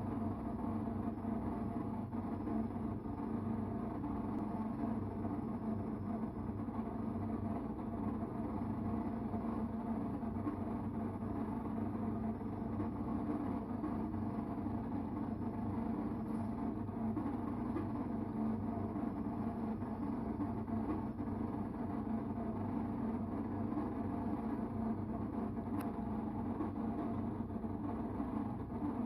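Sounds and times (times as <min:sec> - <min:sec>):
washing machine humming and rumbling: 0:00.0 - 0:29.0.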